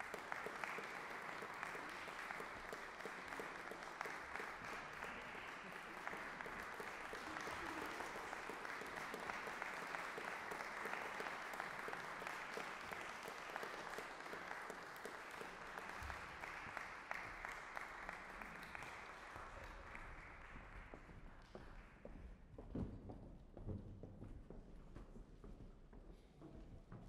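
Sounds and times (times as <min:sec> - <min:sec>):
audience applauding: 0:00.0 - 0:21.9.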